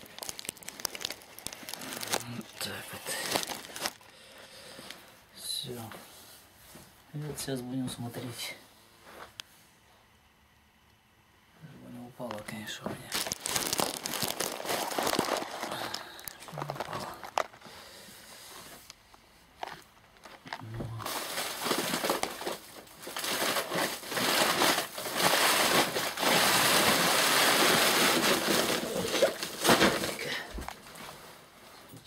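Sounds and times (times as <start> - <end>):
sacks rustling and crinkling: 0.0 - 7.0, 12.7 - 32.0.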